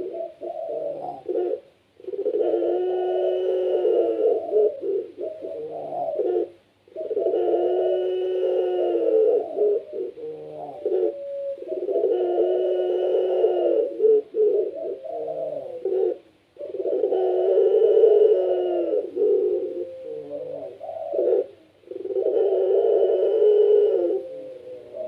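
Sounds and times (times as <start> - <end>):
dove cooing: 0.0 - 25.0.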